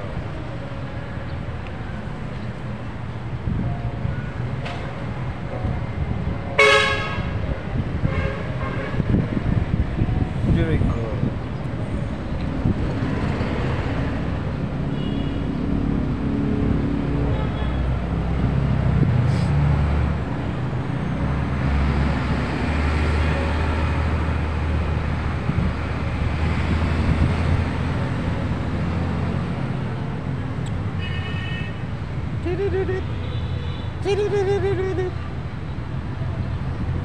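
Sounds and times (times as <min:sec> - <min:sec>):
traffic noise: 0:00.0 - 0:37.0
vehicle engine rumbling: 0:00.0 - 0:37.0.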